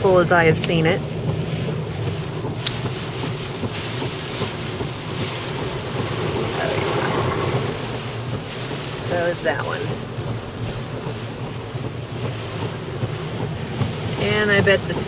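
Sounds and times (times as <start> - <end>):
engine and road rumble: 0.0 - 15.0
tyres hissing on wet road: 0.0 - 15.0.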